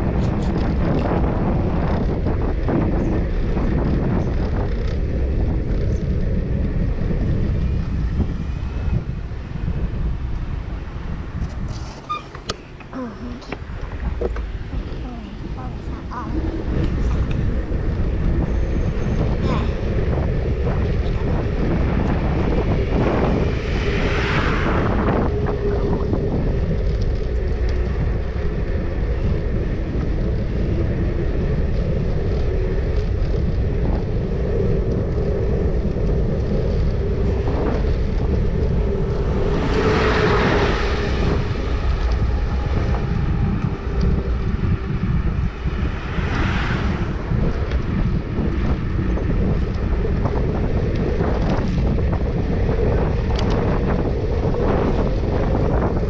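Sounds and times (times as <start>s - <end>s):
road traffic: 0.0s - 56.0s
vehicles passing: 0.0s - 56.0s
wind buffeting microphone: 0.0s - 56.0s.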